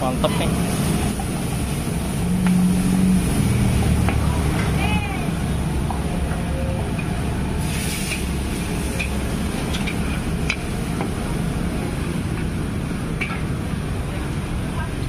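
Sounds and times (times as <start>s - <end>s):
gas burner rushing: 0.0s - 14.7s
liquid sizzling in wok: 0.3s - 6.3s, 6.9s - 13.6s.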